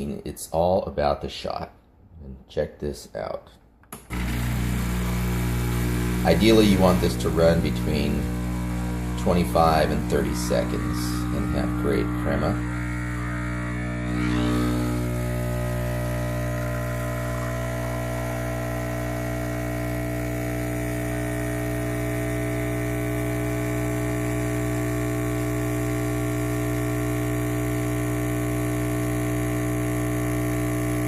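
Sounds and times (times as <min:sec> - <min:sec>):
espresso machine pump humming: 0:04.0 - 0:31.0.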